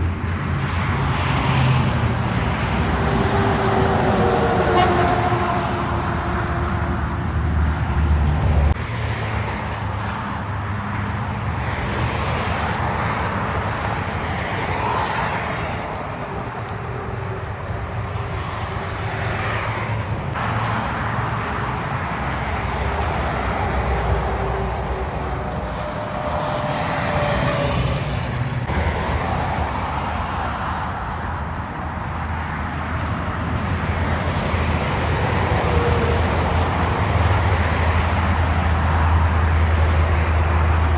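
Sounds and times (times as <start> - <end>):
vehicles passing: 0.0 - 40.9.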